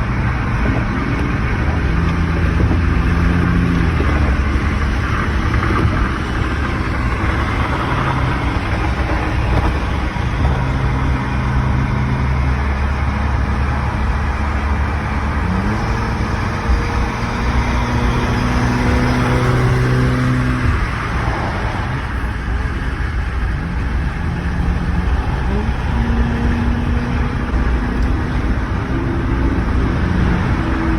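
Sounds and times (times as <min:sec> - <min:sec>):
car engine: 0:00.0 - 0:30.9
road noise: 0:00.0 - 0:30.9.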